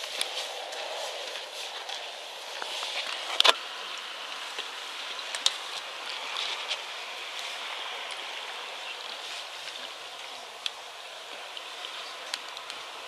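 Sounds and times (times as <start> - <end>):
seawater trickling among rocks: 0.1 - 13.0.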